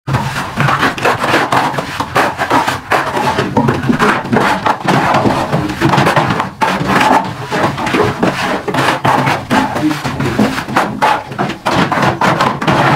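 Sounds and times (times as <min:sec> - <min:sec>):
trowels scraping mortar: 0:00.1 - 0:12.9
trowels slapping mortar on wall: 0:00.1 - 0:12.9.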